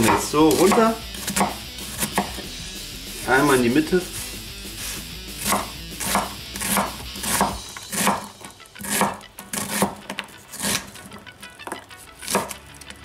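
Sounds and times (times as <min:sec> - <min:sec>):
knife chopping onion on wooden board: 0:00.0 - 0:02.5, 0:03.4 - 0:12.6.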